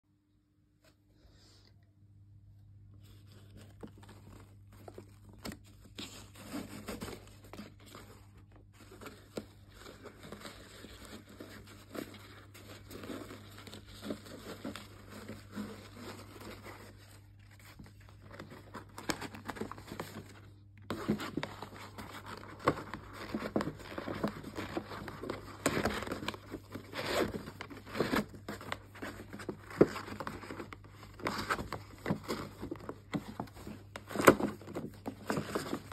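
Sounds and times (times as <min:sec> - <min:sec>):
faint low hum: 0:00.0 - 0:35.9
ribbon rustling and scraping: 0:02.9 - 0:35.9
hands handling cardboard box: 0:03.0 - 0:35.9.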